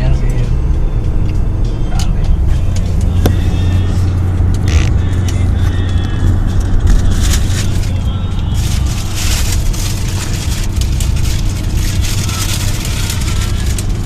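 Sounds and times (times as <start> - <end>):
engine and tyre rumble: 0.0 - 14.0.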